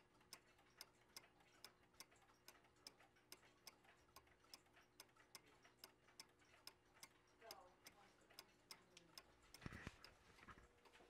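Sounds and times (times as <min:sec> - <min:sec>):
mechanical clock ticking: 0:00.0 - 0:11.0.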